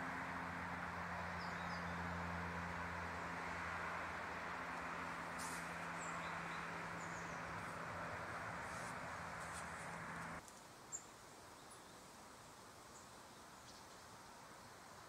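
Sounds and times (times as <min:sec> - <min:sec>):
outdoor background hiss and hum: 0:00.0 - 0:15.0.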